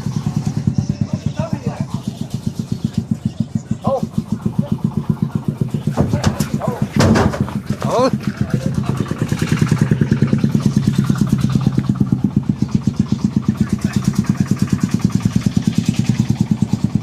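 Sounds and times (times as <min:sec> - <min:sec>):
truck engine chugging: 0:00.0 - 0:17.0.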